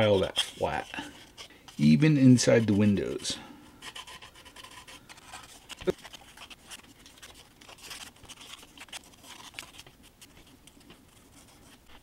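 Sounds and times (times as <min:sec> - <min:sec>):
hand file scraping plastic parts: 0:00.0 - 0:12.0.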